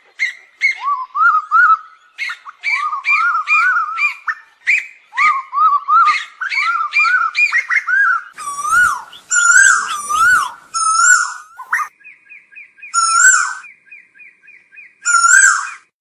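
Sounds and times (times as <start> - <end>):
bird whistled calls: 0.2 - 15.9.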